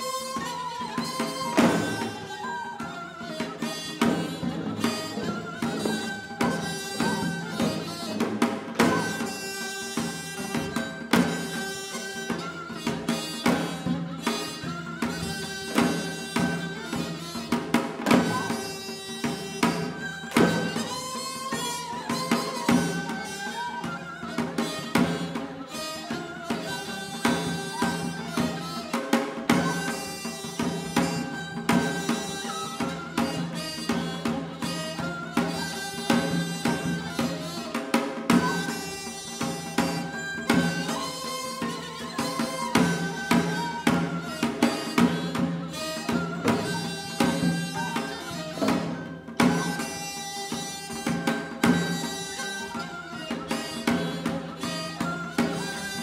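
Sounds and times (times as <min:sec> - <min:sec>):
held melody bending in pitch: 0:00.0 - 0:28.9, 0:38.3 - 0:56.0.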